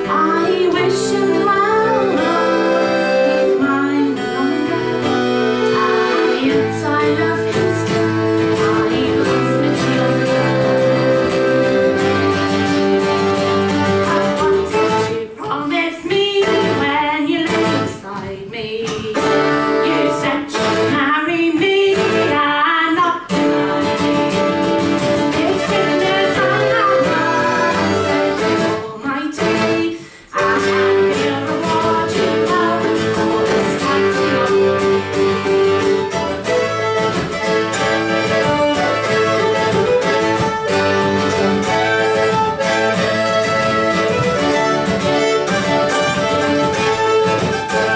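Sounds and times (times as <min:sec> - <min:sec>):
fiddle: 0:00.0 - 0:18.3, 0:18.9 - 0:47.9
acoustic guitar: 0:00.0 - 0:47.9
woman singing folk song: 0:00.0 - 0:47.9.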